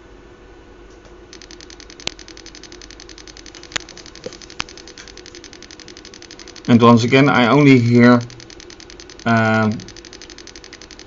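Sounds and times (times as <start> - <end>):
small speaker crackling clicks: 0.9 - 11.0.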